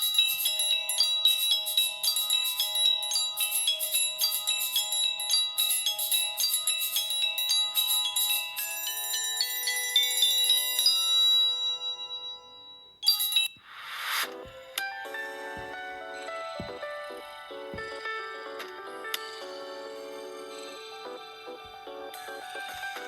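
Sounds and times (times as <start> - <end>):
electronic ringtone melody: 0.0 - 23.0.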